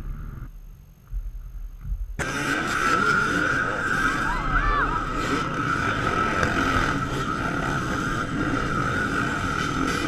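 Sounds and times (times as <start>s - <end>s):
off-road motorcycle engines droning: 0.0s - 0.6s, 2.1s - 10.0s.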